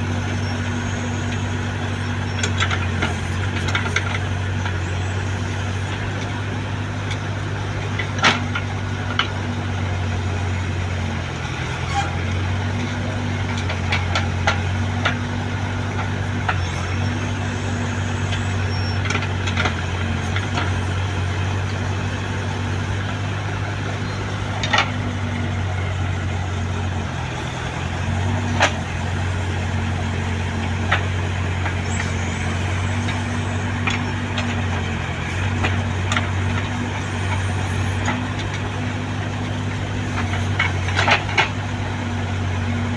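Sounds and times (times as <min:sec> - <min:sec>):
heavy diesel engine droning: 0:00.0 - 0:42.9.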